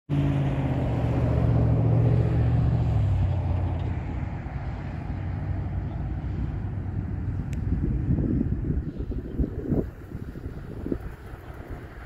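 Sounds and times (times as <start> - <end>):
vehicle engine hum: 0.1 - 12.0
steady rushing noise: 0.7 - 12.0.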